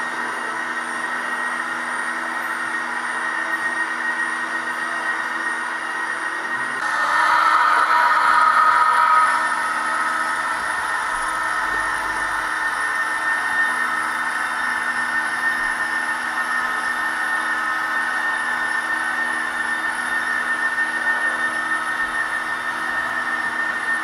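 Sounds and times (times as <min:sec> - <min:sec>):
model railcar motor whining: 0:00.0 - 0:24.0.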